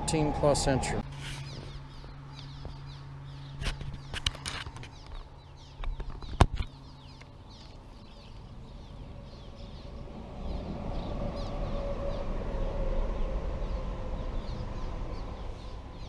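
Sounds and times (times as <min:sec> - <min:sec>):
birds chirping rapidly: 0:00.0 - 0:16.0.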